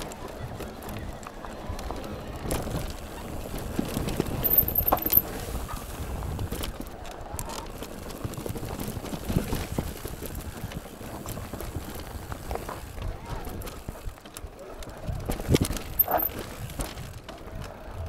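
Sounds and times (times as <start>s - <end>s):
bike knocks and rattles: 0.0s - 17.7s
bike tyres rumbling on trail: 0.0s - 18.0s.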